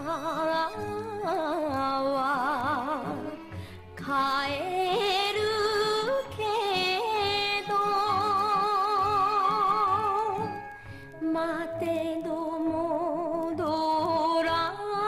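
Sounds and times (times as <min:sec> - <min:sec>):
woman singing with vibrato: 0:00.0 - 0:10.6, 0:11.2 - 0:15.0
instrumental backing: 0:00.0 - 0:15.0.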